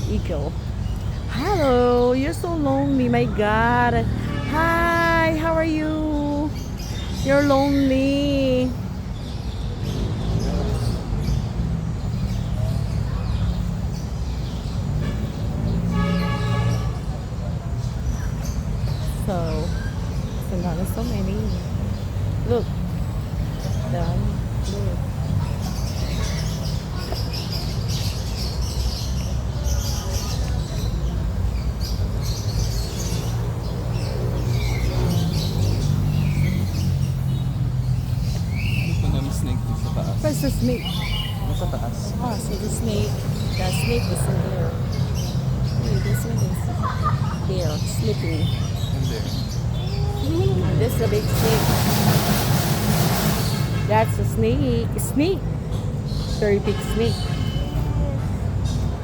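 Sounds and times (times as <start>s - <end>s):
many birds chirping: 0.0s - 59.0s.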